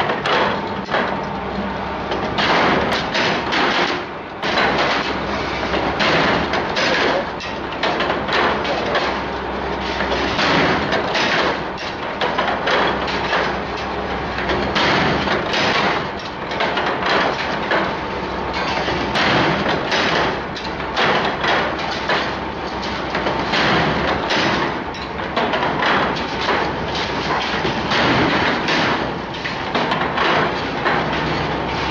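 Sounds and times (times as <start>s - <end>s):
knocks of forming tools: 0.0s - 1.3s, 2.1s - 31.9s
machine mechanical din: 0.0s - 31.9s.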